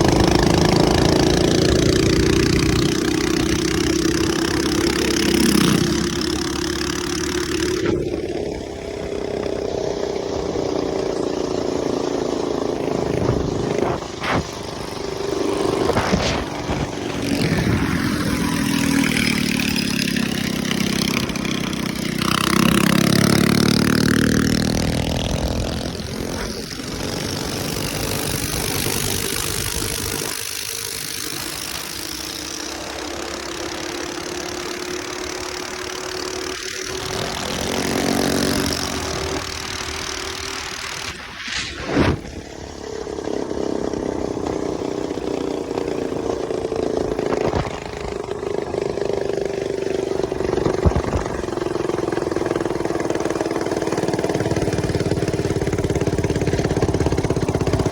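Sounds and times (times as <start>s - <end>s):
small engine revving and idling: 0.0s - 57.9s.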